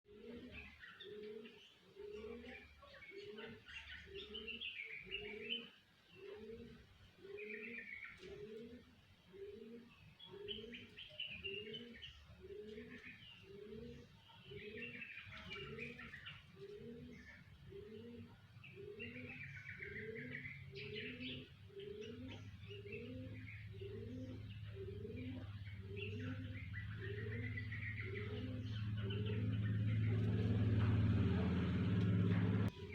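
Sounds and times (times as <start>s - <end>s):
young bird singing chirps and warbles: 0.1s - 32.9s
low cooing pulse: 3.2s - 32.9s.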